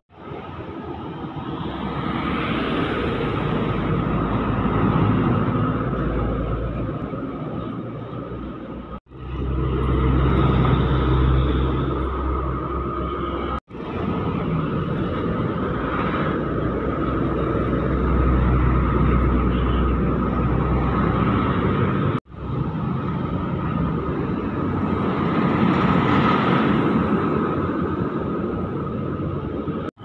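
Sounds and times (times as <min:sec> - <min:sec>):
diesel truck engine drone: 0:00.1 - 0:30.0
truck tyre noise: 0:00.1 - 0:30.0.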